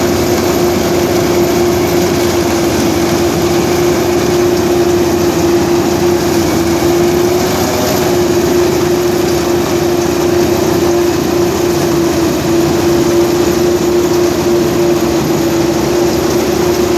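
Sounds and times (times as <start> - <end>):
combine harvester running: 0.0 - 16.9
steady whining tone: 0.0 - 16.9.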